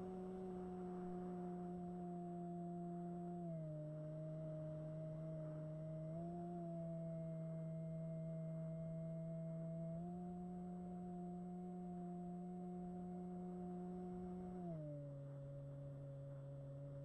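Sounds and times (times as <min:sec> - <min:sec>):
model plane motor humming: 0:00.0 - 0:17.0.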